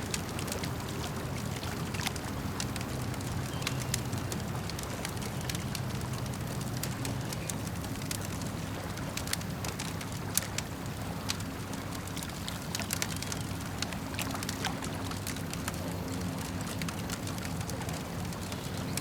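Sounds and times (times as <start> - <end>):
campfire crackling: 0.0 - 19.0
lake water lapping: 0.0 - 19.0.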